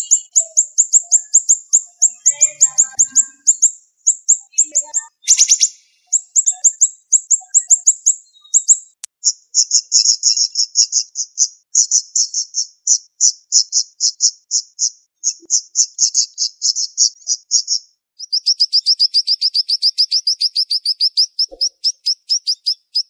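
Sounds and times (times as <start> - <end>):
bird singing high chirps: 0.0 - 23.0.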